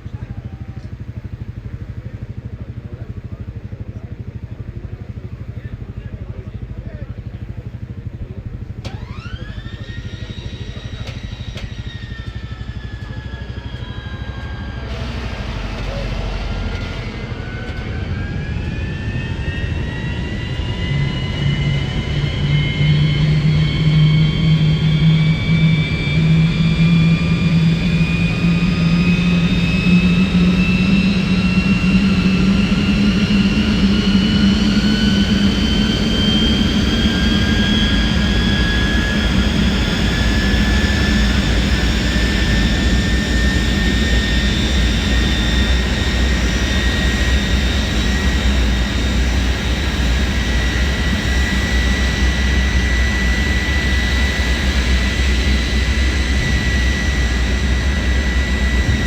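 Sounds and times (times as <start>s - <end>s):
deep engine rumble: 0.0s - 59.0s
jet engine whine: 0.0s - 59.0s.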